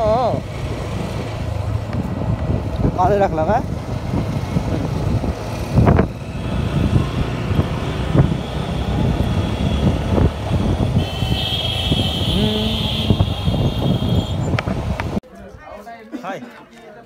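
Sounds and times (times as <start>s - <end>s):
wind noise on microphone: 1.0s - 15.2s.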